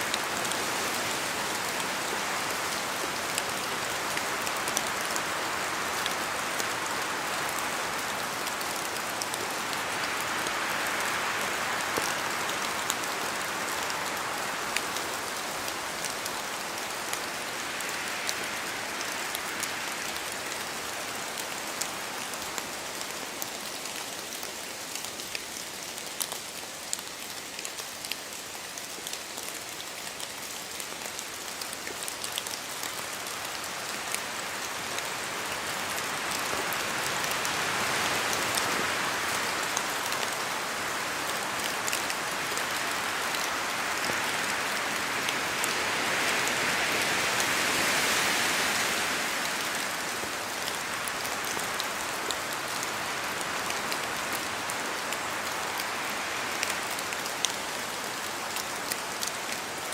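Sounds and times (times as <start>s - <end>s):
rain falling in a forest: 0.0s - 59.9s
wind through trees: 0.0s - 59.9s.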